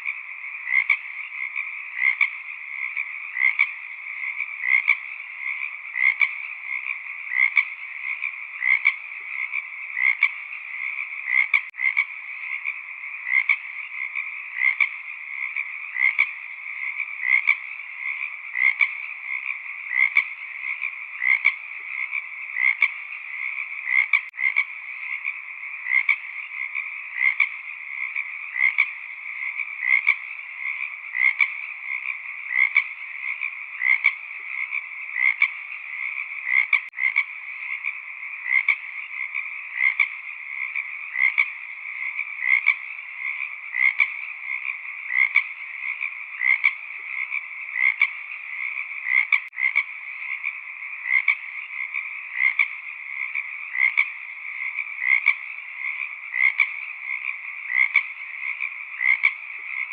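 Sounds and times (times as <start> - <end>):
frog chorus: 0.0 - 59.9
loud frog croaks: 0.0 - 59.9.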